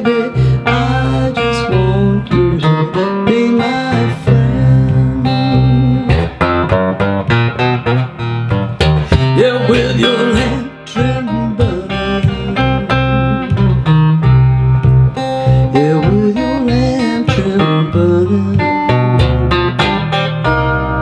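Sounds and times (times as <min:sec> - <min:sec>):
electric guitar blues: 0:00.0 - 0:21.0.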